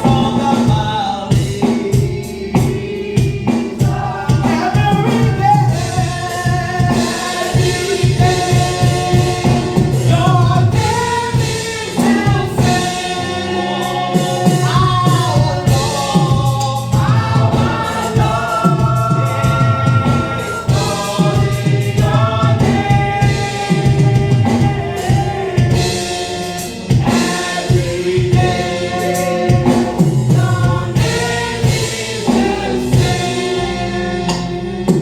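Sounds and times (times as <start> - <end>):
gospel singers with band: 0.0 - 35.0.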